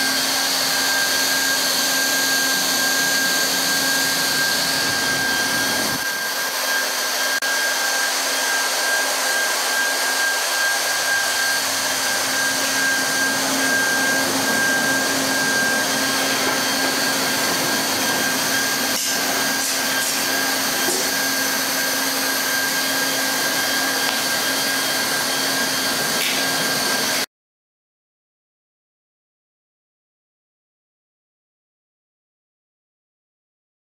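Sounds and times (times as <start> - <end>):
hot-air welding gun blowing hiss: 0.0 - 27.3.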